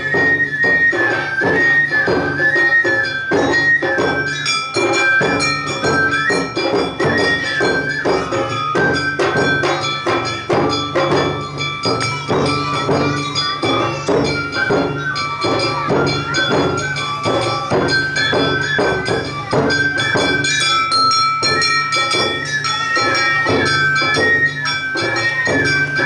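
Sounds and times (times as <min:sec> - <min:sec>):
bamboo flute melody: 0:00.0 - 0:26.0
drums beating: 0:00.0 - 0:26.0.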